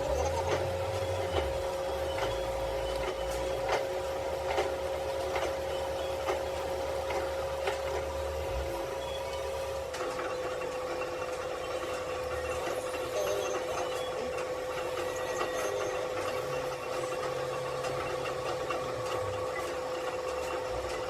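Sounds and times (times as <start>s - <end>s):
machine whining and humming: 0.0s - 21.0s.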